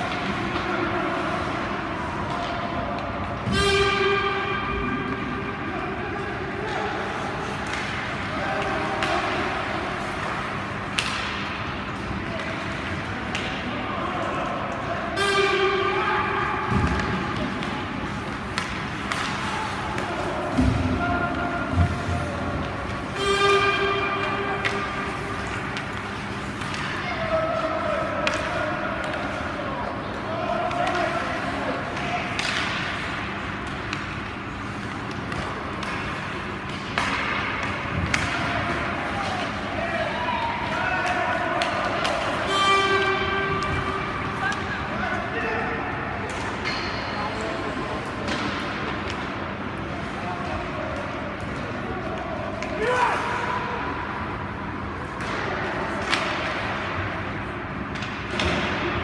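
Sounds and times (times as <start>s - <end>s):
hockey sticks and puck clacking: 0.0s - 59.0s
rink crowd hubbub: 0.0s - 59.0s.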